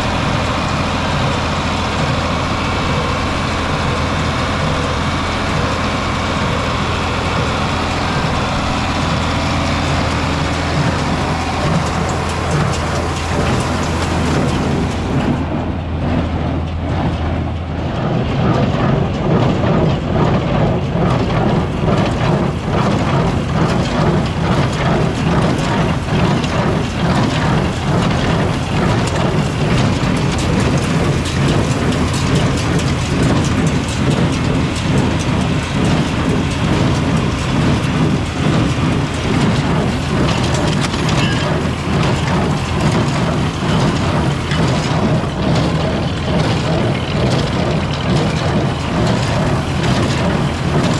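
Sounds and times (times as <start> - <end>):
hay baler clattering: 0.0 - 50.9
tractor engine running: 0.0 - 50.9.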